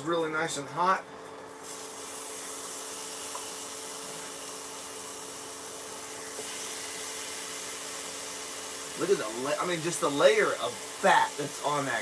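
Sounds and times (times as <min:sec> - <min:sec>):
meat sizzling in a frying pan: 0:01.6 - 0:12.0.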